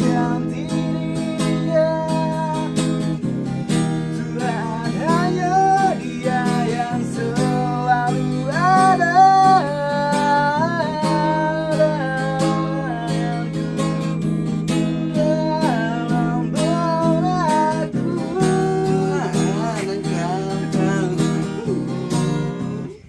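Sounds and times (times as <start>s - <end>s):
person singing long wavering notes: 3.7s - 23.0s.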